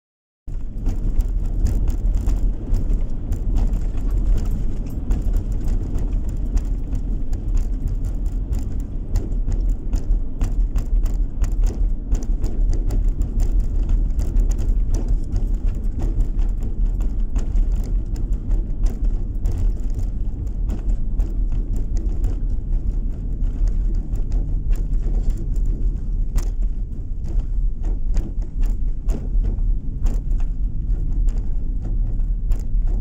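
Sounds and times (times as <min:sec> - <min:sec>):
small ticks and knocks: 0:00.5 - 0:33.0
tyres and engine rumble: 0:00.5 - 0:33.0.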